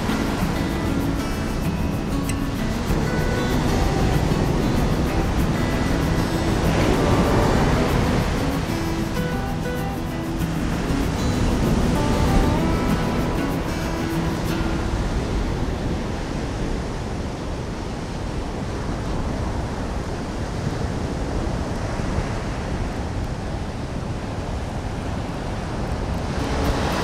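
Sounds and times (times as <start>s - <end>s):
ocean surf on beach: 0.0s - 27.0s.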